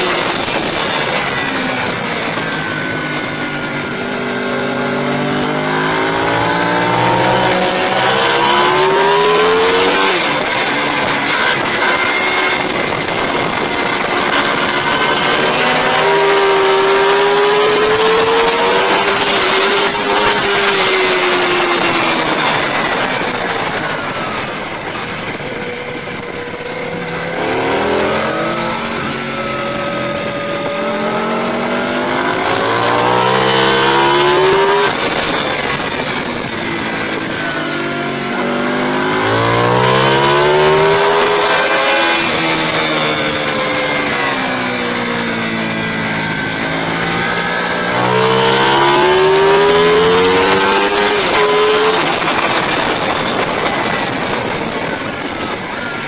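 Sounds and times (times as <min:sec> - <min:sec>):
racing motorcycle engine revving: 0:00.0 - 0:56.0.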